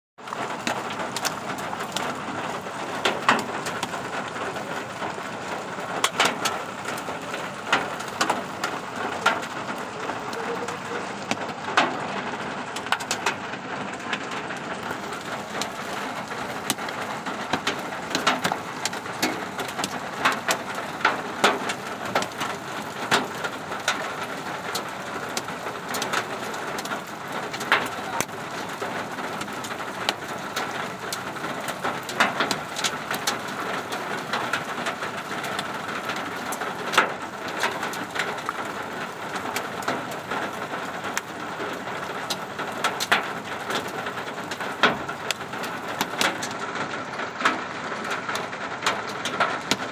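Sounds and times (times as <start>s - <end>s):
hailstones clicking: 0.2s - 49.9s
heavy rain on asphalt: 0.2s - 49.9s.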